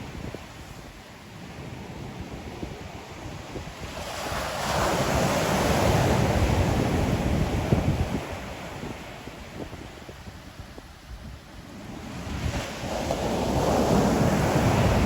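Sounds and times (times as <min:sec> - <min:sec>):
ocean wave breaking and washing: 0:00.0 - 0:15.0
wind rumble on microphone: 0:00.0 - 0:15.0.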